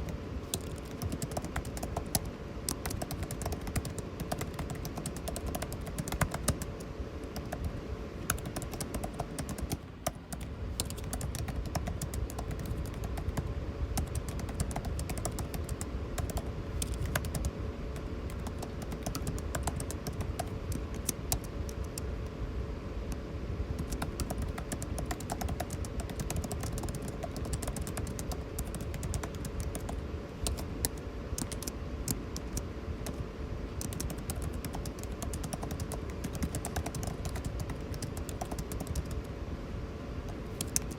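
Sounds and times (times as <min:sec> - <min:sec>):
rapid typing on a keyboard: 0:00.0 - 0:22.1, 0:23.8 - 0:39.3, 0:40.3 - 0:40.9
air conditioning hum: 0:00.0 - 0:40.9.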